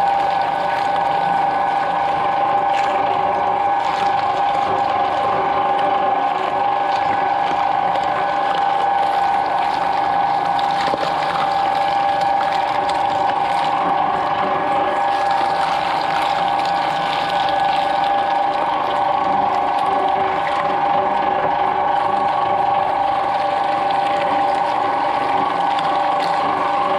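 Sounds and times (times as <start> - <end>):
shredder motor whine: 0.0 - 26.9.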